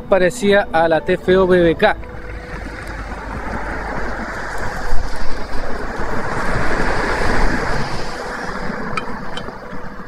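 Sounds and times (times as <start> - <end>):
gusty wind buffeting microphone: 1.4 - 10.0.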